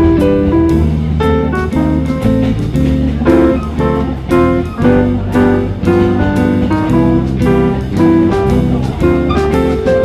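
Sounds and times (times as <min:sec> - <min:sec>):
acoustic guitar background music: 0:00.0 - 0:10.0.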